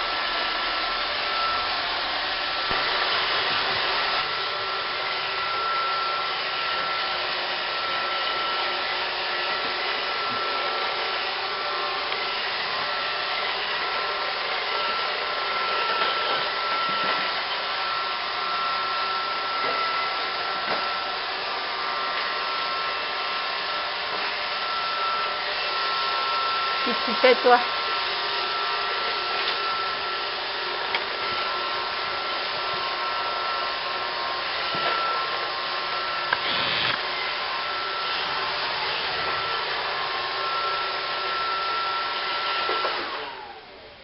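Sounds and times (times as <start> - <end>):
robot vacuum whirring: 0.1 - 44.0.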